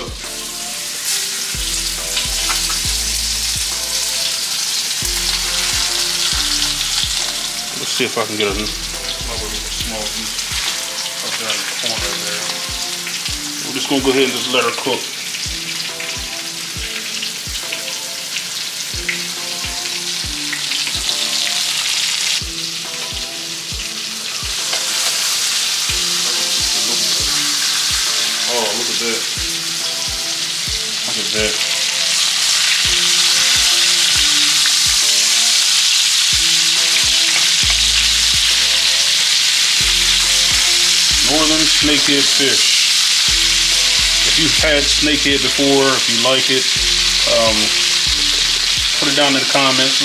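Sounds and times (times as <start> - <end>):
fish fillets sizzling in a skillet: 0.0 - 50.0.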